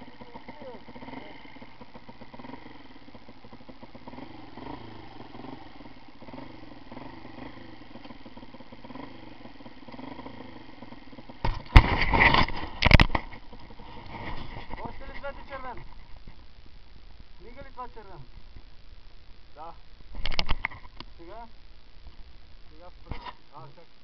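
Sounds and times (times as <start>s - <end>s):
motorcycle engine idling: 0.0s - 23.1s.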